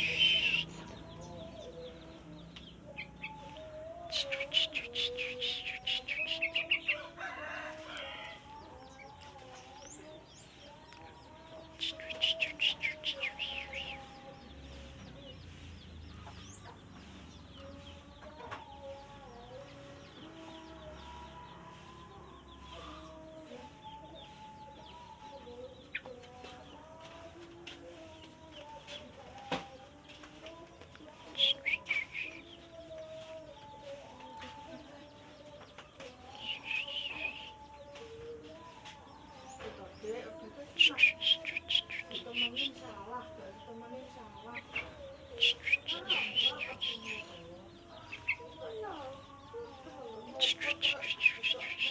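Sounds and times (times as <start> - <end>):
chickens clucking: 0.0 - 51.9
small birds chirping: 0.0 - 51.9.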